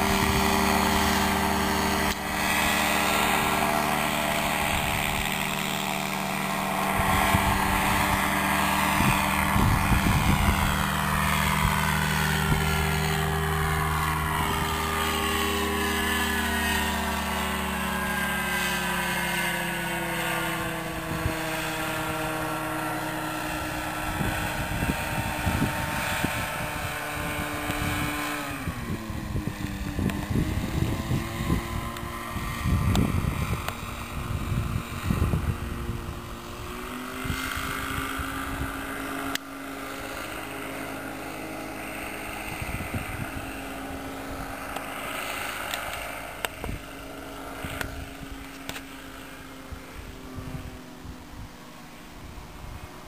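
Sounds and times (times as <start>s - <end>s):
wind buffeting microphone: 0.0s - 48.7s, 49.5s - 53.0s
ultralight engine and propeller droning: 0.0s - 53.0s.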